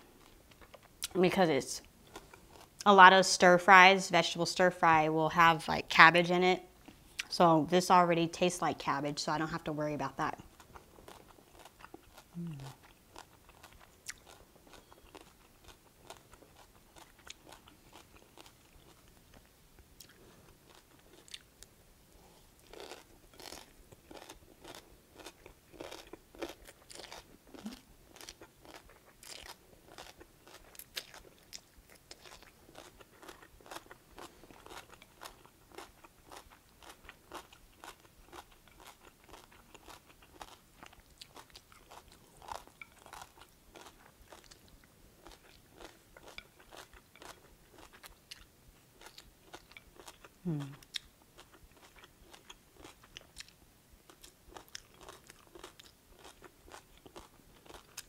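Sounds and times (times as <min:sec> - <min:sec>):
chewing and crunching: 0:10.2 - 0:21.5, 0:22.6 - 0:58.0.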